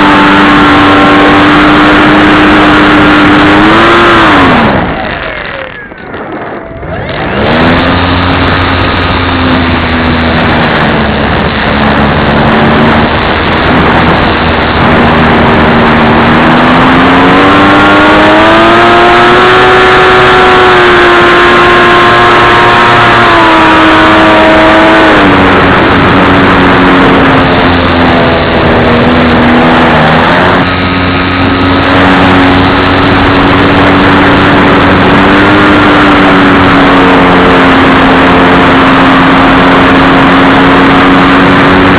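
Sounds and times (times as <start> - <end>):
model plane motor and propeller: 0.0 - 41.9.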